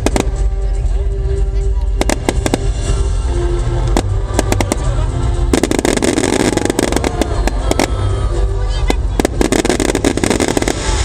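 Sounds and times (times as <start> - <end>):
fireworks bursting and crackling: 0.0 - 1.0, 1.8 - 11.0
heavy low rumble: 0.0 - 11.0
loud show music: 0.0 - 11.0.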